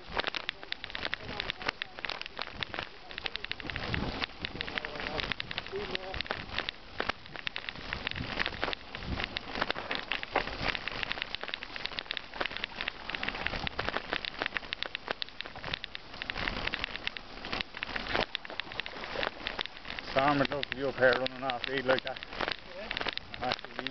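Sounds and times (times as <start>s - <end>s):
bike tyres crunching gravel: 0.0s - 23.9s.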